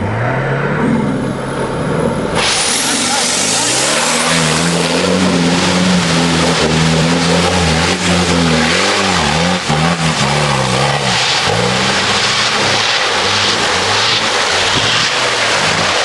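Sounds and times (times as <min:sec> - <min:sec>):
steady rushing noise: 0:00.0 - 0:16.0
vehicle engine revving: 0:00.0 - 0:16.0.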